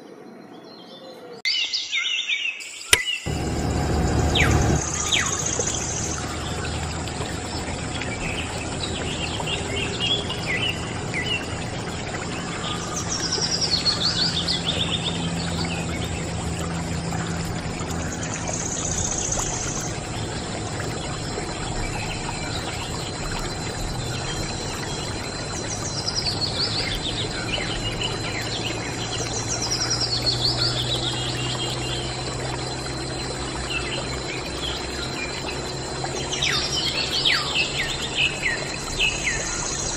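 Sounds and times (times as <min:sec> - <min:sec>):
bird singing trilled phrases: 0:00.9 - 0:39.9
small water pump running: 0:03.3 - 0:39.9
water splashing: 0:03.3 - 0:39.9.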